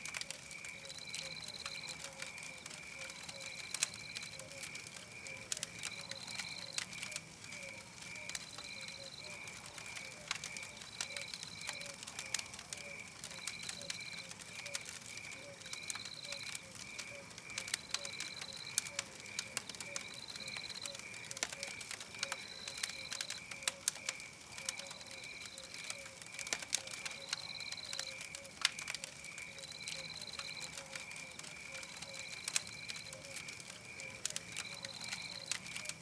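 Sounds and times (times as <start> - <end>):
campfire crackling and popping: 0.0 - 36.0
steady insect chirping: 0.0 - 36.0.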